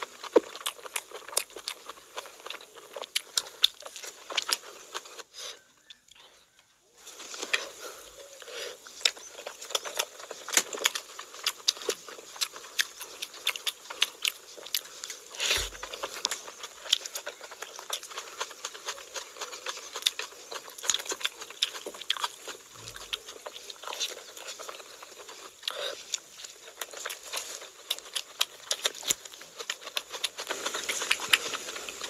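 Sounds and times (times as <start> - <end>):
wet chewing and lip smacks: 0.0 - 6.6, 7.2 - 32.0.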